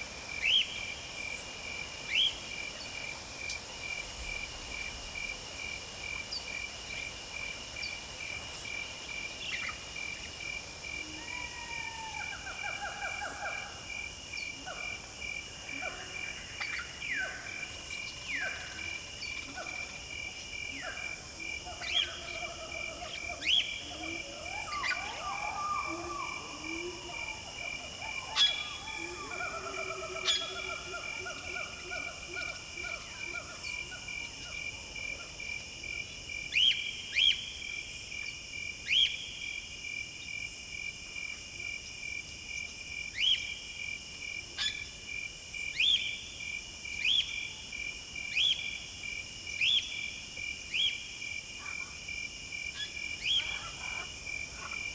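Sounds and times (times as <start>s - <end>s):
insects chirring: 0.0s - 54.9s.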